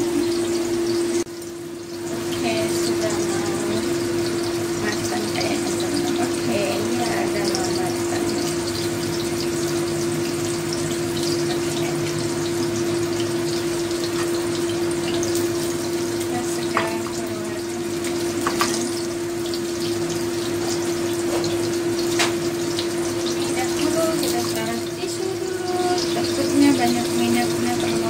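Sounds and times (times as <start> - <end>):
patties sizzling in oil: 0.0 - 28.0.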